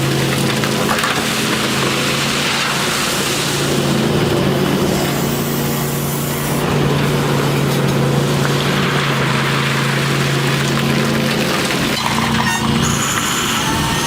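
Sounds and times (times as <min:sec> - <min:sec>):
heavy machinery engine hum: 0:00.0 - 0:14.0.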